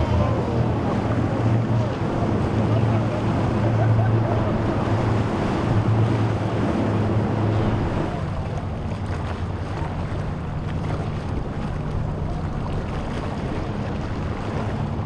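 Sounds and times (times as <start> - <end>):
outboard boat engine running: 0.0 - 15.0
waves washing: 0.0 - 15.0.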